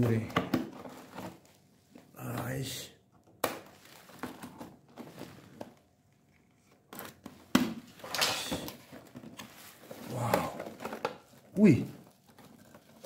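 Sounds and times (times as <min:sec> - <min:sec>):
bubble wrap and cardboard rustling: 0:00.0 - 0:02.6, 0:03.6 - 0:13.0.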